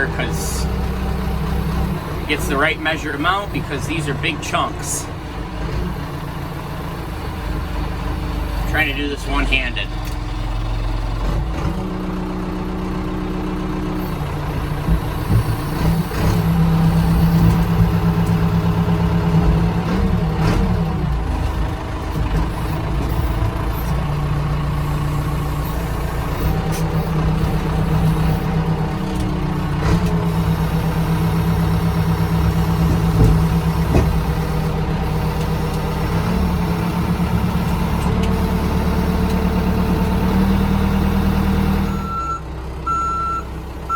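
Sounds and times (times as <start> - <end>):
backhoe diesel engine revving: 0.0 - 43.9.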